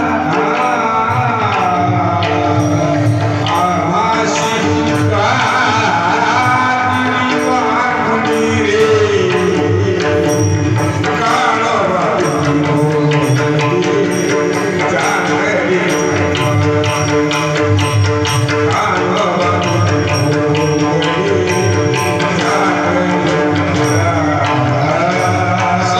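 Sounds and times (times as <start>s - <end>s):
drum beat: 0.0s - 25.9s
jingling hand percussion: 0.0s - 25.9s
man singing: 0.0s - 25.9s
sustained instrumental tones: 0.0s - 25.9s.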